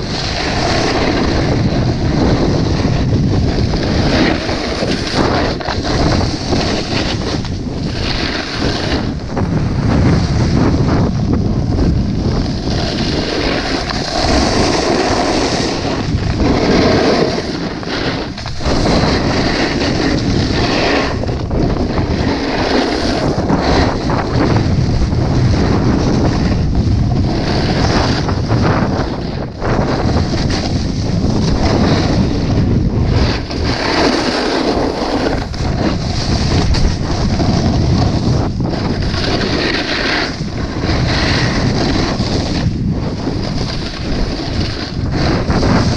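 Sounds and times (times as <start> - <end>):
snowboard scraping on snow: 0.0 - 45.9
wind rushing over microphone: 0.0 - 45.9.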